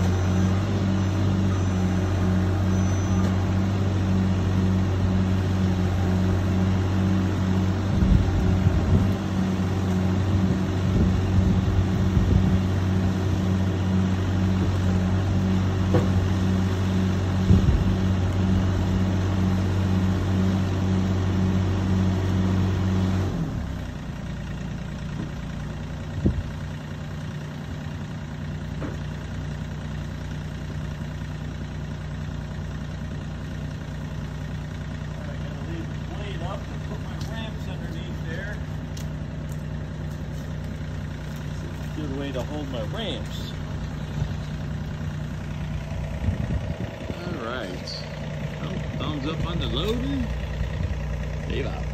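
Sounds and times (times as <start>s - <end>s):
diesel engine running with pulsing throb: 0.0s - 51.9s.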